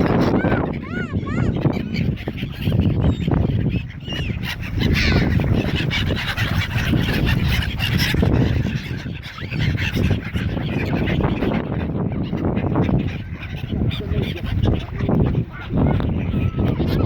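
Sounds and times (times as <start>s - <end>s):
gulls and waterbirds calling: 0.0s - 17.0s.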